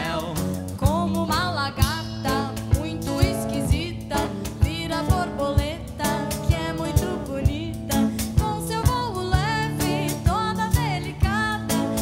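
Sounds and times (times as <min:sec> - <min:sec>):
drum kit: 0:00.0 - 0:12.0
guitar: 0:00.0 - 0:12.0
woman singing: 0:00.0 - 0:12.0.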